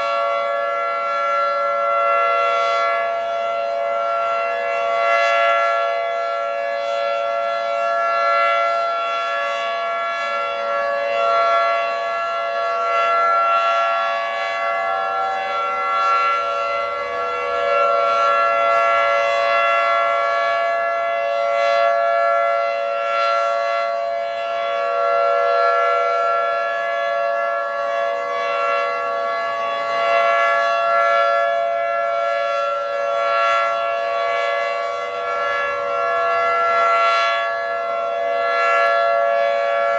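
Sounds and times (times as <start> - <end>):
two-tone rotating warning siren: 0.0 - 39.9.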